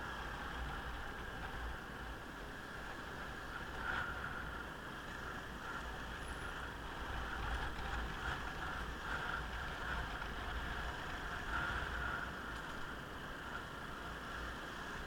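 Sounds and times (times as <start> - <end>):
motorcycle road and wind noise: 0.0 - 15.0.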